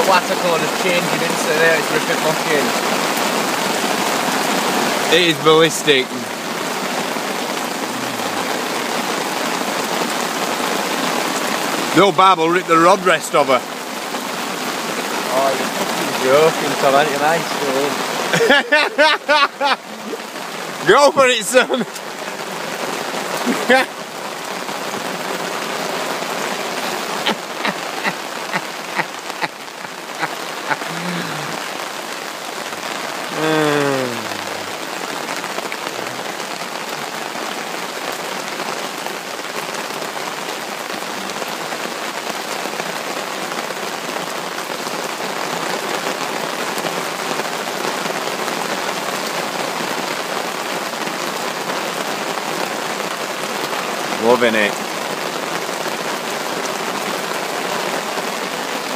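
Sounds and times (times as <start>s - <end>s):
heavy rain on river: 0.0s - 58.9s.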